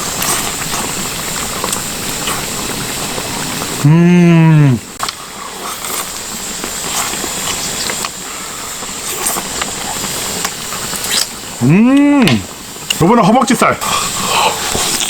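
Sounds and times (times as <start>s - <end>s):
stew sizzling: 0.0s - 15.0s.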